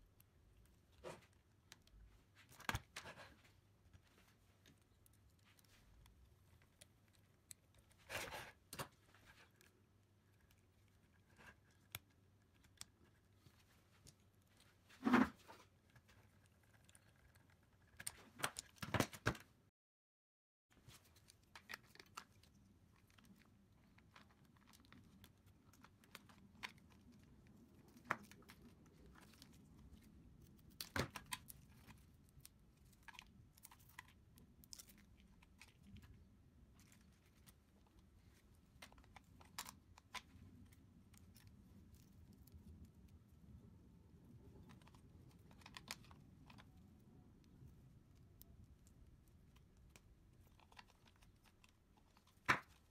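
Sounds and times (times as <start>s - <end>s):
small plastic parts clicking and rustling: 0.1s - 19.5s, 20.7s - 52.9s.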